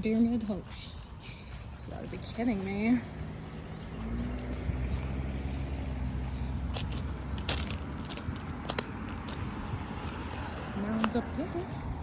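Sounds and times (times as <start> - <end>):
footsteps crunching on dry leaves: 0.0 - 12.0.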